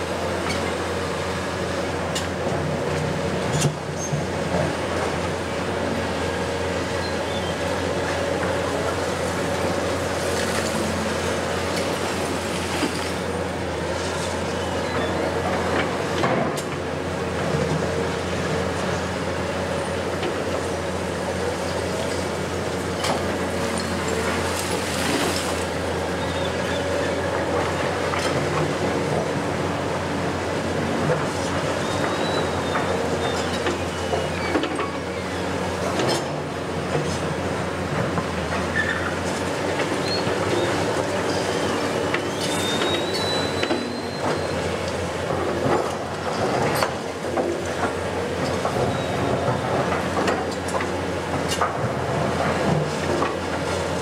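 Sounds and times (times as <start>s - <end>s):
excavator running: 0.0s - 54.0s.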